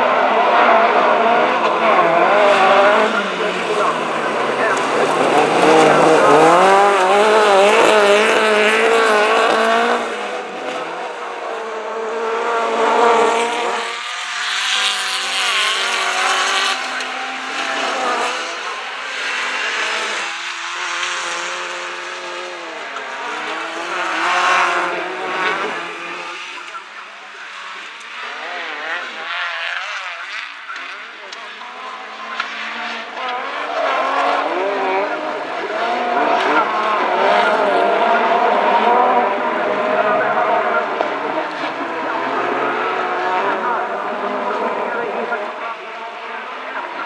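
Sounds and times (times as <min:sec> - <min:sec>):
gravel and tyre noise: 0:00.0 - 0:47.0
racing car engines revving: 0:00.0 - 0:47.0.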